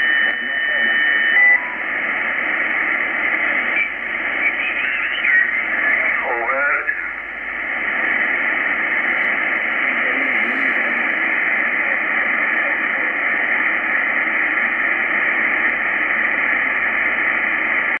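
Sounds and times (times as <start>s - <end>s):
radio receiver hiss: 0.0s - 18.0s.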